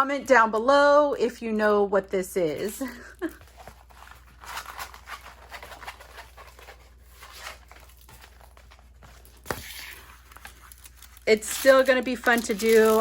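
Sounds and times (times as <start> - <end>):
packaging rustling and crinkling: 2.5 - 13.0.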